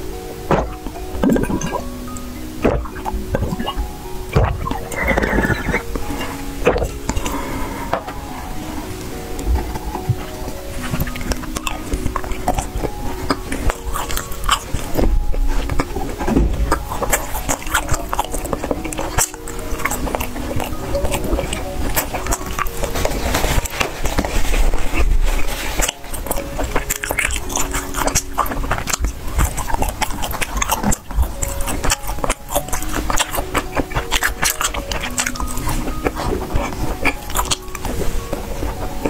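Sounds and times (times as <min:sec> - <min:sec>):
crisp bites and chewing: 0:00.0 - 0:08.2, 0:08.9 - 0:39.0
background music: 0:00.0 - 0:39.0.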